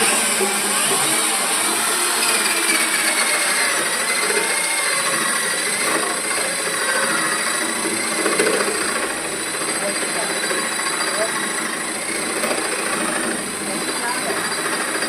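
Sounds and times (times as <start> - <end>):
power tool cutting wood: 0.0 - 15.0.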